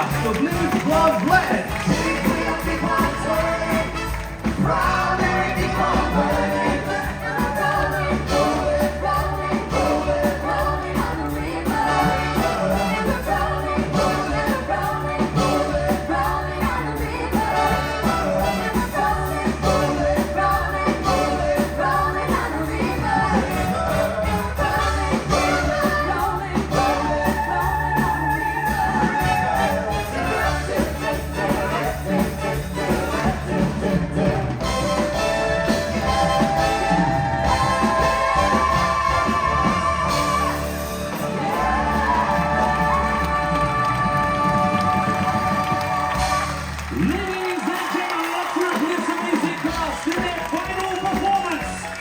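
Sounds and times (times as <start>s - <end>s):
singers with band and orchestra: 0.0s - 52.0s.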